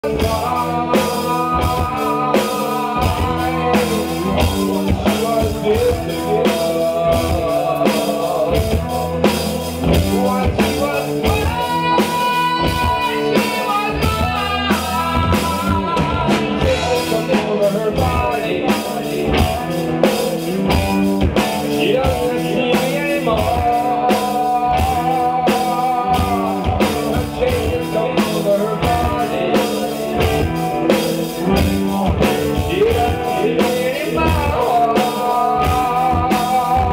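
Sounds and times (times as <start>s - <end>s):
bass guitar: 0.0s - 36.9s
distorted electric guitars: 0.0s - 36.9s
drum kit beat: 0.0s - 36.9s
man singing: 0.0s - 36.9s.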